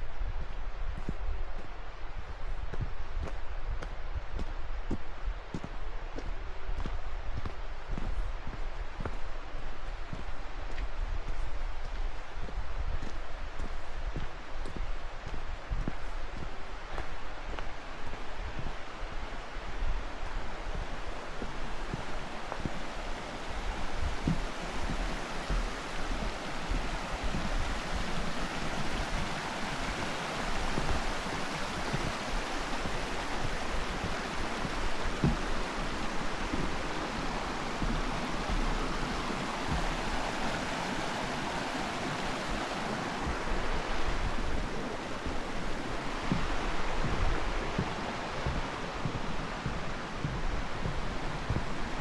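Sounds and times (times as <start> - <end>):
stream rushing: 0.0 - 52.0
wind thumps on microphone: 0.0 - 52.0.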